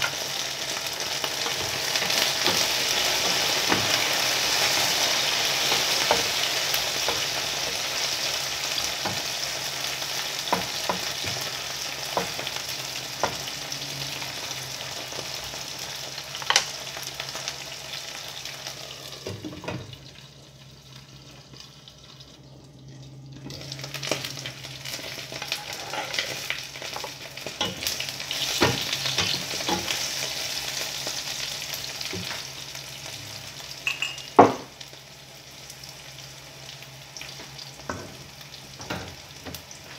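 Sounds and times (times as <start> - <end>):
eggplant sizzling in oil: 0.0 - 39.9.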